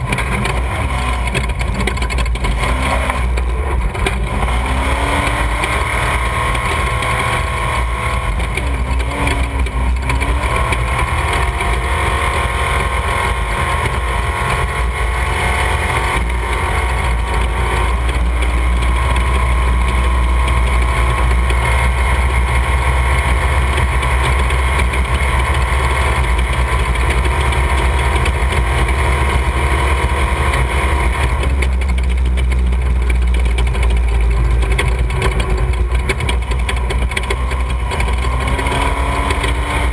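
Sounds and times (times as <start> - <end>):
race vehicle engines running: 0.0 - 39.9.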